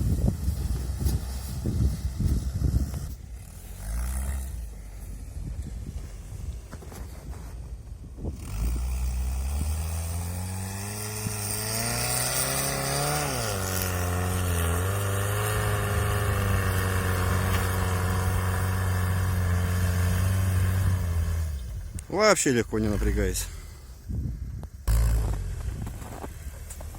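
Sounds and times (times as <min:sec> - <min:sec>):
engine pulling under throttle: 0:00.0 - 0:26.9.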